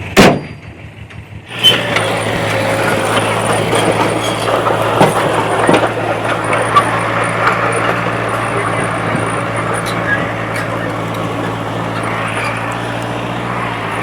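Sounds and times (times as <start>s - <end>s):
heavy machinery diesel engine: 0.0s - 14.0s
metallic clanks and knocks: 0.2s - 13.9s.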